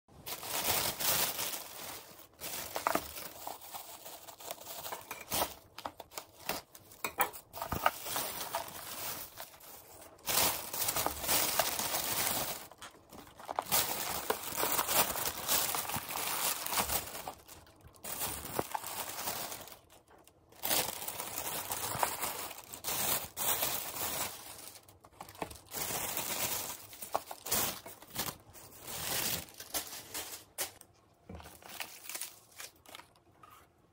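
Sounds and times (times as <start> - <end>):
plastic bag rustling and crinkling: 0.1 - 33.7.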